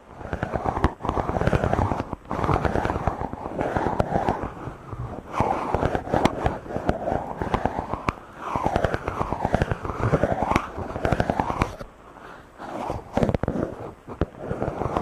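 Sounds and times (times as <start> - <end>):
microphone being rubbed: 0.0 - 15.0.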